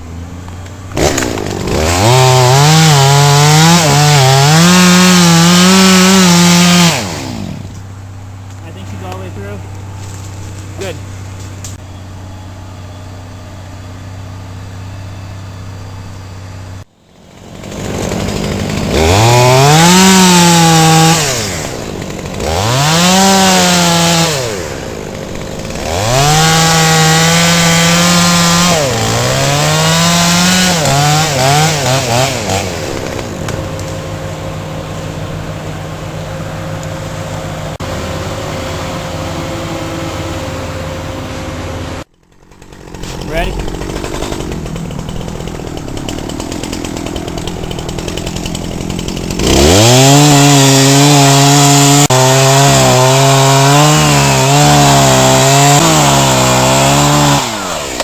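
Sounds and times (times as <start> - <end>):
chainsaw cutting wood: 0.1 - 11.8, 16.6 - 58.0.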